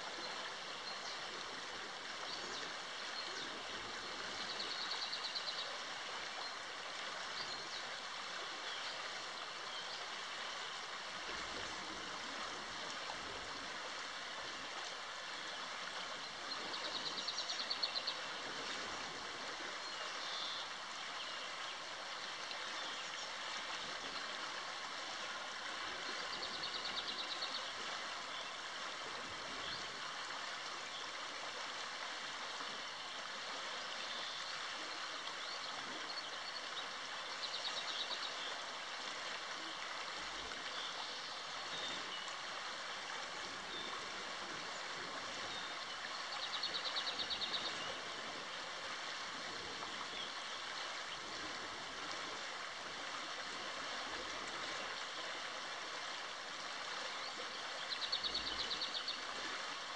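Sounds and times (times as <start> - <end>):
river flowing over riffle: 0.0 - 59.9.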